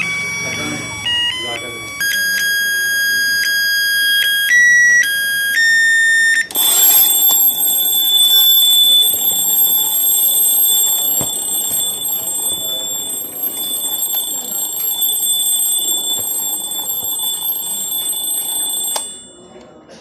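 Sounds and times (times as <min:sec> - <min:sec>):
shrill alarm clock ringing: 0:00.0 - 0:19.8.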